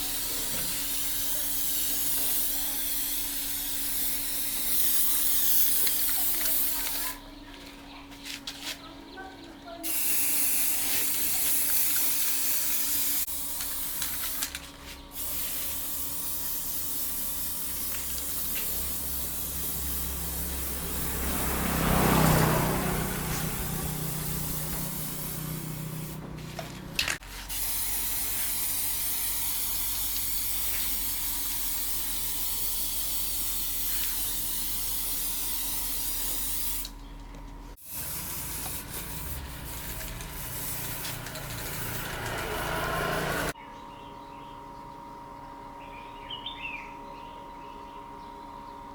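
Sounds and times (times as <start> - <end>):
blower hissing air: 0.0 - 7.2, 9.9 - 26.7, 27.3 - 37.0, 37.8 - 43.6.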